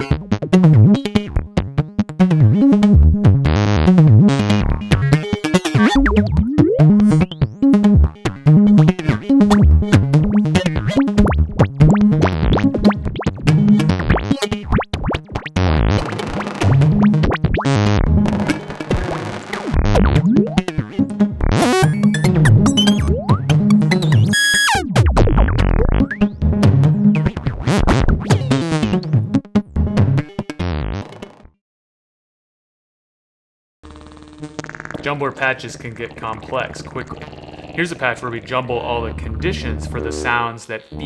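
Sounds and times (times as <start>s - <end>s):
low synthesizer bass notes: 0.0s - 31.0s, 34.4s - 41.0s
synthesizer gated sawtooth notes: 0.0s - 31.2s, 33.9s - 41.0s.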